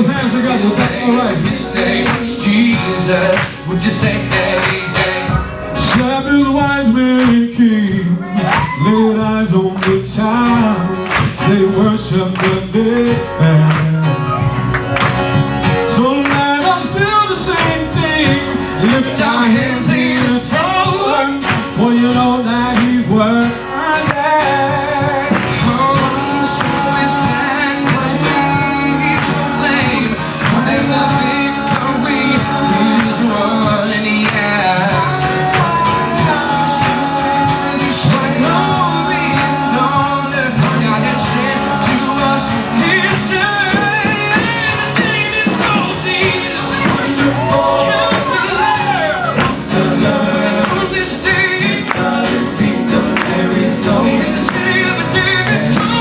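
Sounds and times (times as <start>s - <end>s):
band playing: 0.0s - 56.0s
drum beat: 0.0s - 56.0s
gospel singers: 0.0s - 56.0s.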